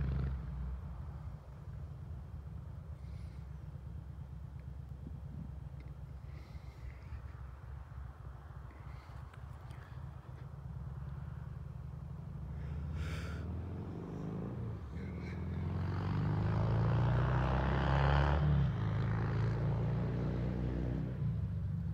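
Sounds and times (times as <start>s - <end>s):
motorcycle engine rumbling: 0.0s - 21.9s.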